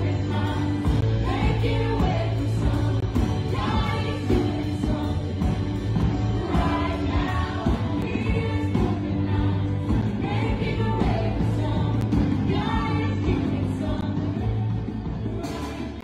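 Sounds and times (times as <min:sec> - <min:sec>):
band with low bass: 0:00.0 - 0:16.0
group of voices singing: 0:00.0 - 0:16.0.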